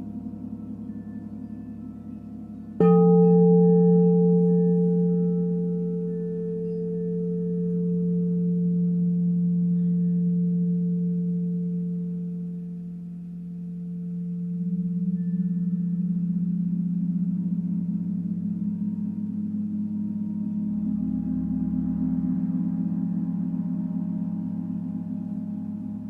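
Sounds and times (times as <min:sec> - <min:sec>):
singing bowl ringing: 0:00.0 - 0:26.0
wavering bowl tone: 0:00.0 - 0:26.0.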